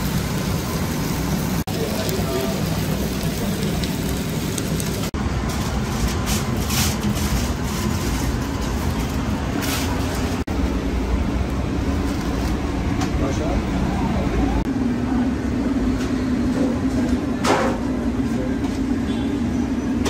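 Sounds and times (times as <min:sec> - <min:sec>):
low rumble of shop and street: 0:00.0 - 0:20.0.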